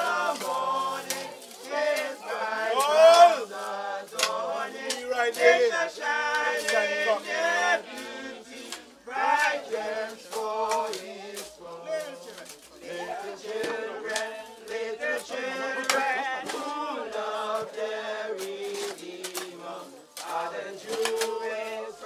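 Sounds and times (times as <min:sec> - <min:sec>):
group singing a hymn: 0:00.0 - 0:22.0.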